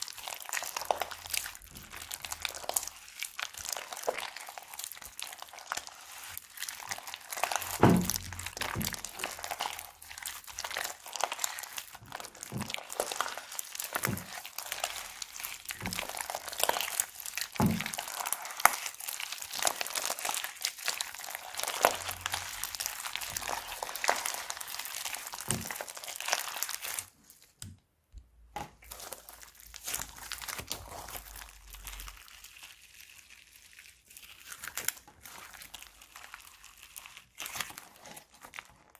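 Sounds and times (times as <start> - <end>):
plastic bags and slime crinkling: 0.0 - 38.9.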